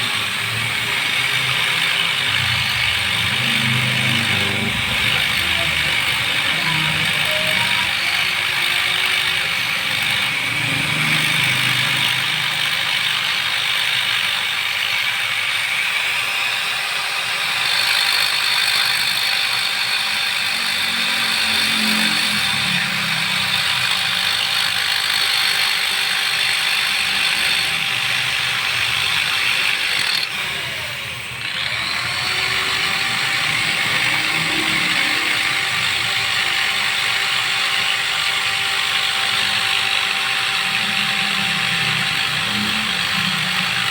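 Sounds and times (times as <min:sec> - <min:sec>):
die grinder whining: 0:00.0 - 0:43.9.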